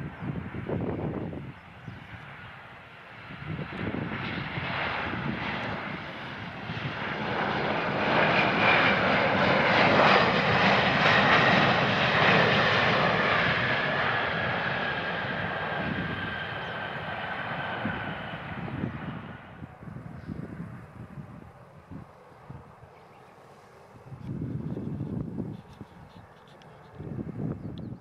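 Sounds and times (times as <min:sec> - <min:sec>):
jet engines roaring: 0:00.0 - 0:27.7.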